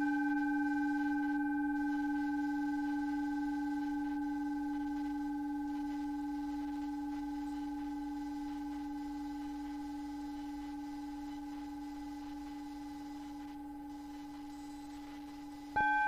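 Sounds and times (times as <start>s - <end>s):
sustained meditation tone: 0.0s - 16.0s.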